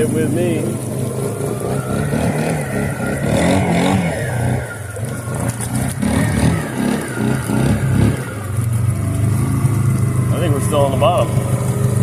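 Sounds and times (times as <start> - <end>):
atv engine under throttle: 0.0 - 12.0.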